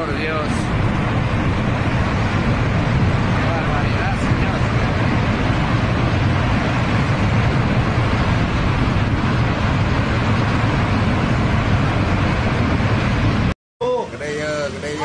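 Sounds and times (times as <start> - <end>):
debris flow rumbling rush: 0.0 - 15.0.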